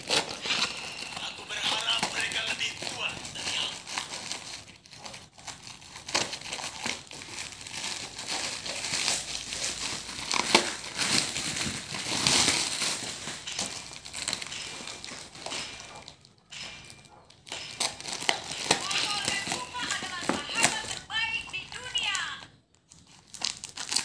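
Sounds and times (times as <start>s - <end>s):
plastic wrap crinkling: 0.0s - 24.0s.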